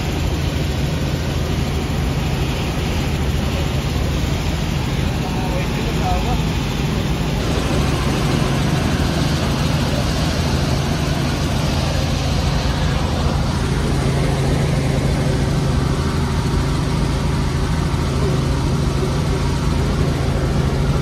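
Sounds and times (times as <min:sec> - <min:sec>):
helicopter cabin drone: 0:00.0 - 0:21.0.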